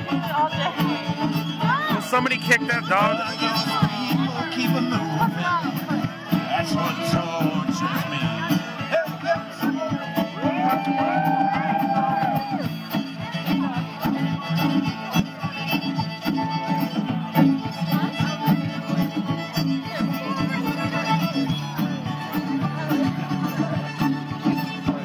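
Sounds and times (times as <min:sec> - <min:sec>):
bluegrass band playing: 0:00.0 - 0:25.0
fiddle melody: 0:00.0 - 0:25.0.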